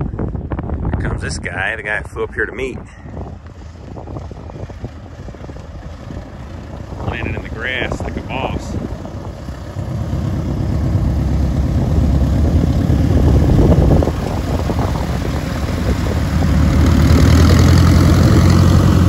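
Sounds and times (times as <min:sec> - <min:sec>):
propeller airplane engine idling: 0:00.2 - 0:19.0.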